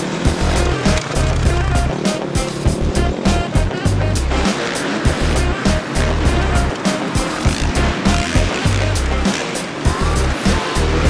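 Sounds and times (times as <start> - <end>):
music with fast drum beat: 0.0 - 11.0.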